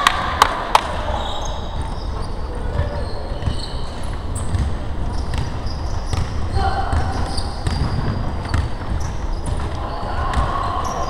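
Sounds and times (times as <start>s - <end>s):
sneaker squeaks: 0.8s - 11.0s.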